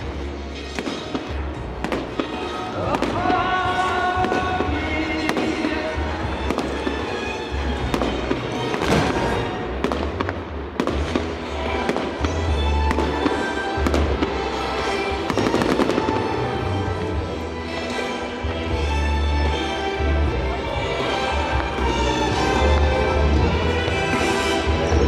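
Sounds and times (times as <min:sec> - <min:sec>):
fireworks bangs and crackles: 0:00.0 - 0:18.6, 0:20.7 - 0:25.0
music playing: 0:00.0 - 0:25.0.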